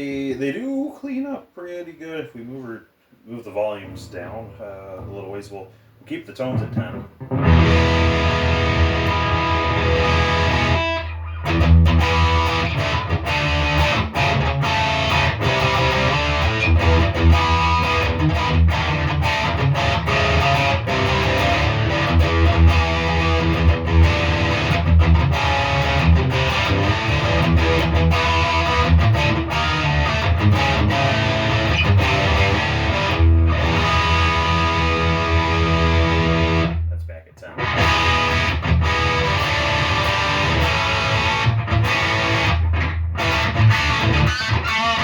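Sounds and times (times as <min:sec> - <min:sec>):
clean electric guitar chords: 0:07.2 - 0:36.8, 0:37.6 - 0:45.0.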